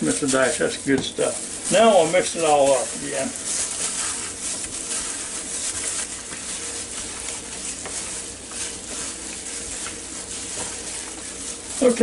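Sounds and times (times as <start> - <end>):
gloves squishing raw meat: 0.0 - 12.0.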